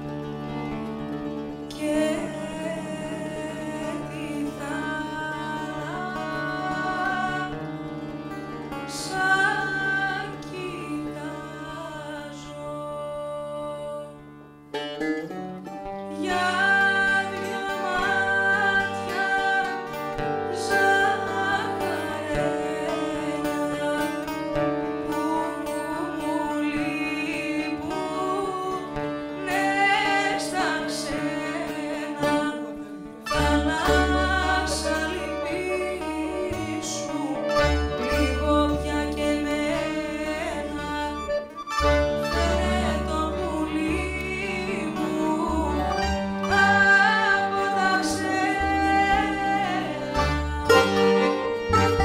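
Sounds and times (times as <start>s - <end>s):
double bass: 0.0s - 12.4s, 14.7s - 52.0s
accordion: 0.0s - 52.0s
bouzouki: 0.0s - 52.0s
guitar: 0.0s - 52.0s
woman singing: 1.6s - 7.8s, 8.6s - 14.4s, 16.0s - 52.0s.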